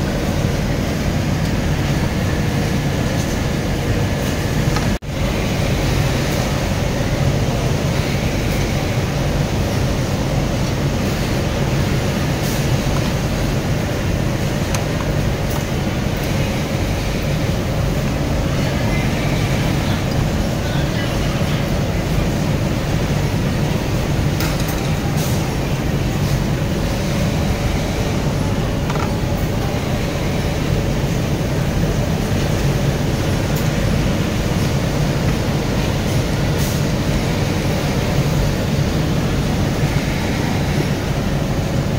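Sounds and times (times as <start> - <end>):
low machinery hum and rumble: 0.0 - 41.9.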